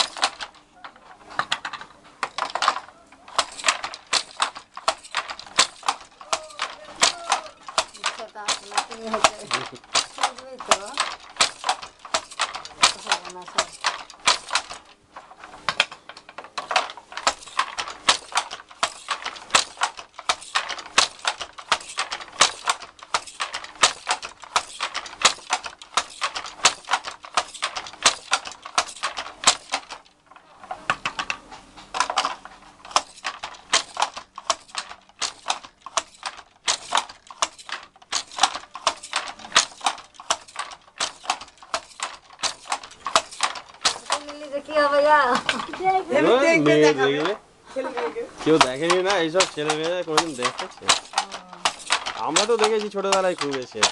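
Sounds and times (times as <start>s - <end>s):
wooden handloom clacking: 0.0s - 53.9s.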